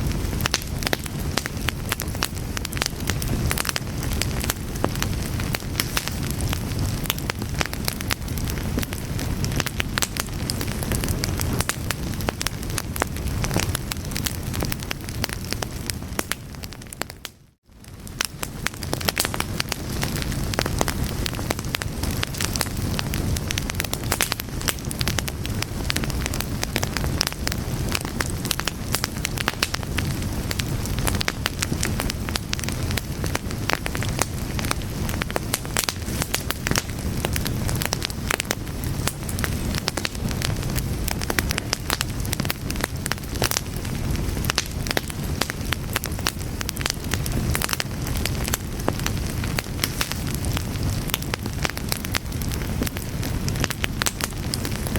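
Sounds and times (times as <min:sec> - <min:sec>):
fire crackling: 0:00.0 - 0:54.9.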